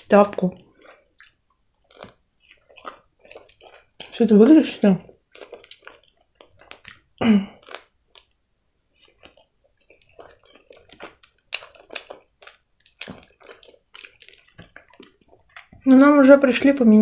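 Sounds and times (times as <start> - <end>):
close chewing mouth sounds: 0.0 - 16.2.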